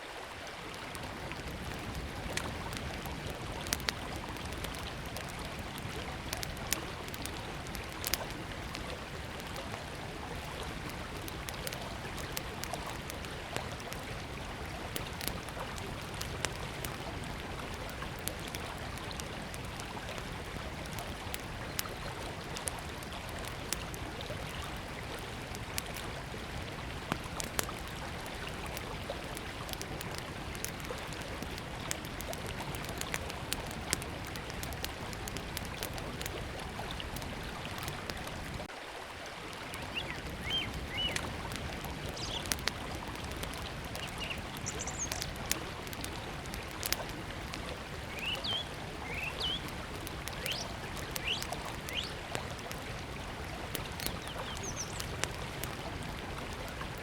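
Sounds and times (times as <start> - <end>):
campfire crackling: 0.0 - 57.0
river flowing: 0.0 - 57.0.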